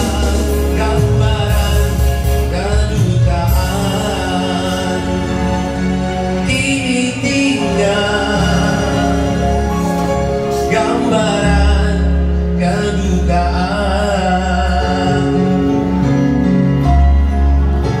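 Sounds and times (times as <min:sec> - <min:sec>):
man singing pop ballad: 0:00.0 - 0:16.5
electronic keyboard: 0:00.0 - 0:18.0
steady bass: 0:00.0 - 0:18.0.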